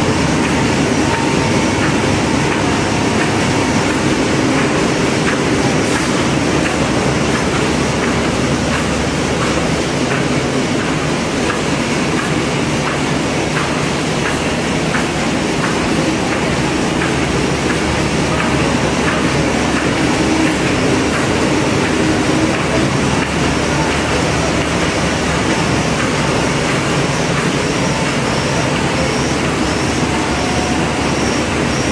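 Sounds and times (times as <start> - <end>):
laminating machine rumbling: 0.0 - 31.9.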